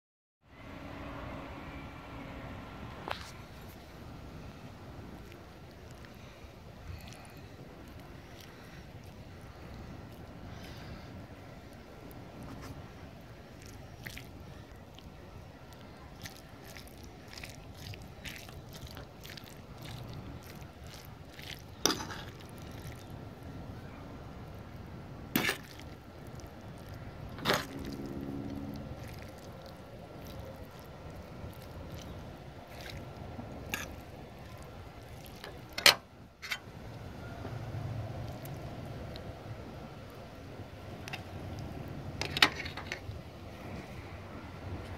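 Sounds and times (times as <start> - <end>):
steady background noise: 0.5 - 44.9.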